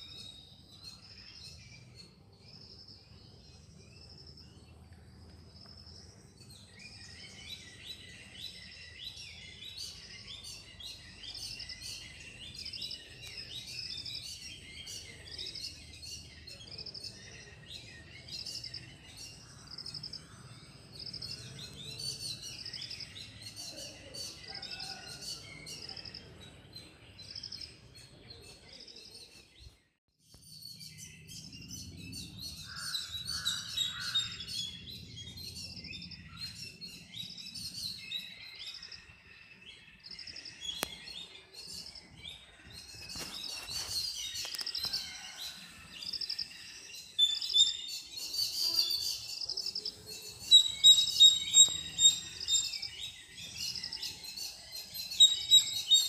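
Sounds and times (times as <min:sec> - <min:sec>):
small birds chirping: 0:00.0 - 0:45.3, 0:46.0 - 0:56.0.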